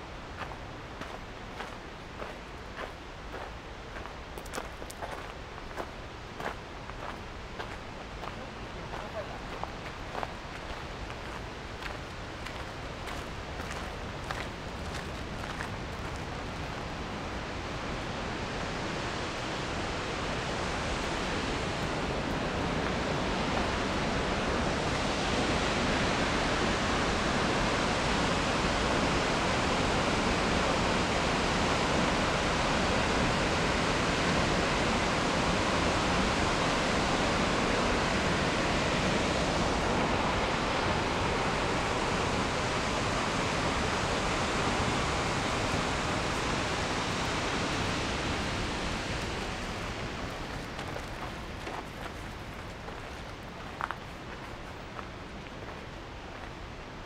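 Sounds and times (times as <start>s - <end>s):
waterfall rushing: 5.1s - 54.4s.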